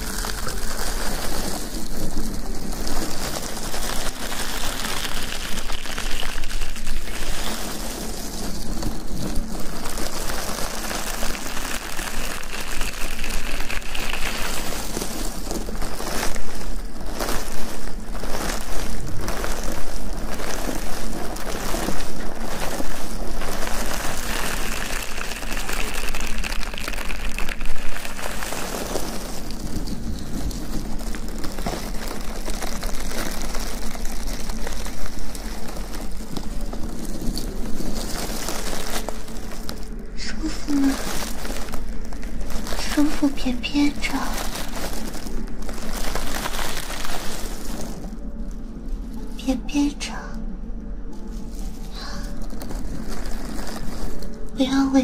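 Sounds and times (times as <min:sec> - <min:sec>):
rustling and rubbing on microphone: 0:00.0 - 0:49.3.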